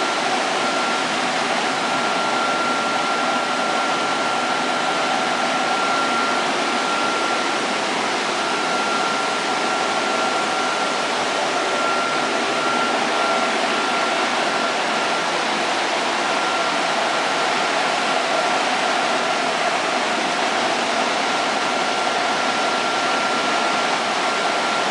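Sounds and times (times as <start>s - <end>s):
flour mill machinery rushing: 0.0s - 24.9s
high machine whine: 0.0s - 24.9s.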